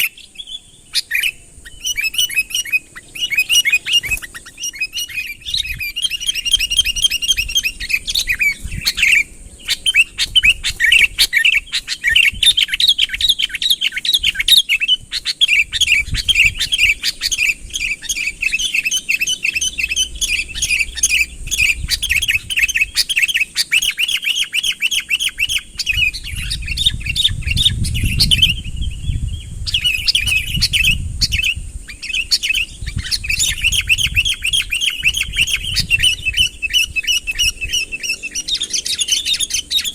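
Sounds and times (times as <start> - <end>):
bulbul rapid chirping song: 0.0 - 39.9.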